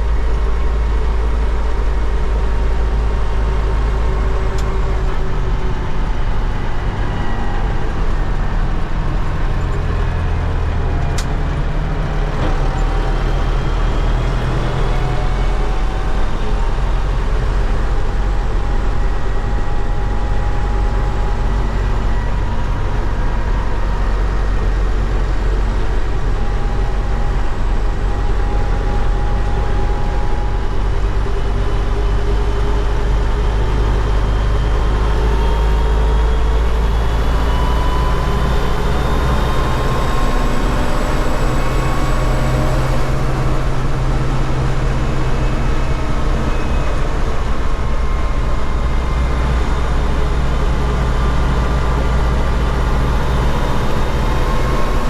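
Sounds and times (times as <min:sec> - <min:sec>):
tractor diesel engine running hard: 0:00.0 - 0:55.0.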